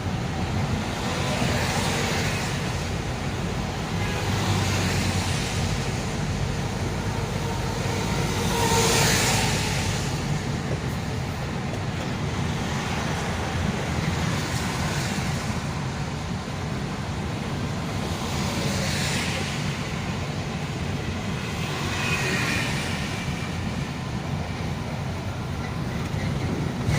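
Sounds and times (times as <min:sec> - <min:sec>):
vehicle engine and tyre rumble: 0:00.0 - 0:26.9.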